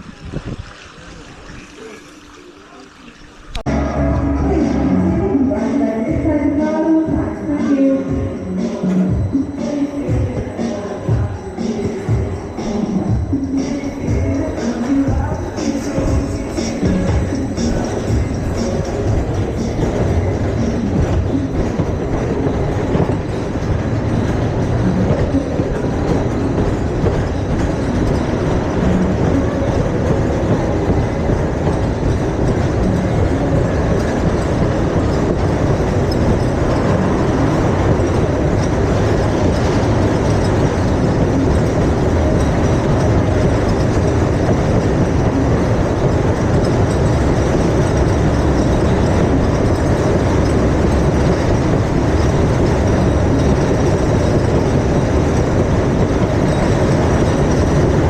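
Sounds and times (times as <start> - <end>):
ride vehicle rumbling and rattling: 0.0 - 58.0
clickety-clack on rails: 4.2 - 58.0.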